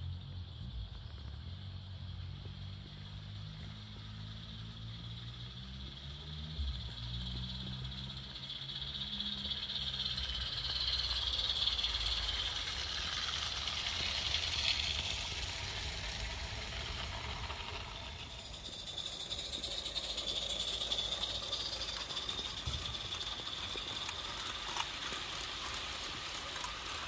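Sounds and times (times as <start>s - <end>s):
wagons rattling on track: 1.0s - 27.0s
hissing steam exhaust: 2.2s - 27.0s.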